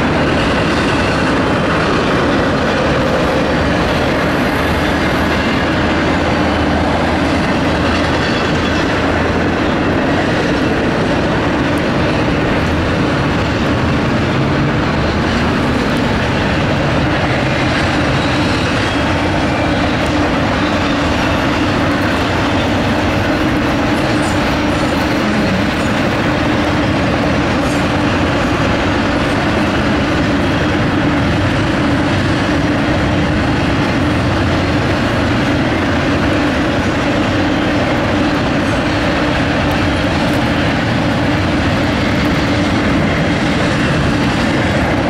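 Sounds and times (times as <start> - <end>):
freight train rolling past: 0.0 - 45.0.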